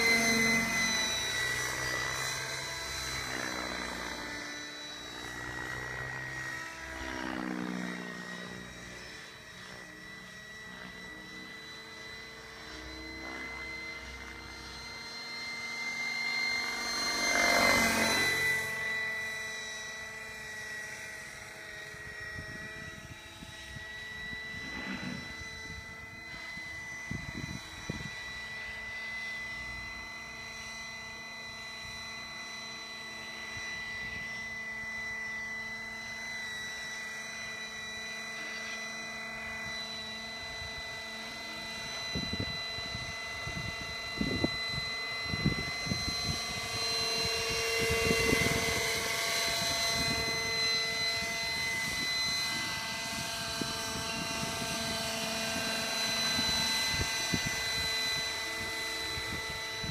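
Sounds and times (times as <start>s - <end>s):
model helicopter rotor whine: 0.0s - 59.9s.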